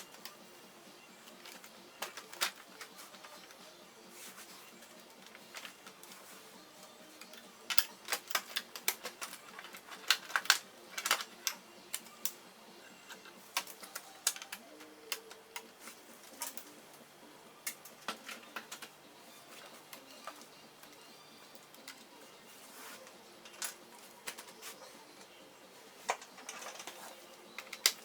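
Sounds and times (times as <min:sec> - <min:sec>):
small parts and tools clicking: 0:00.0 - 0:28.0.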